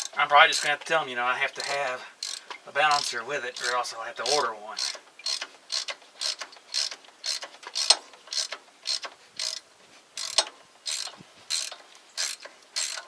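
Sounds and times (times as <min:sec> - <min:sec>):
ratchet wrench clicking: 0:00.0 - 0:00.7, 0:01.6 - 0:09.6, 0:10.2 - 0:13.0.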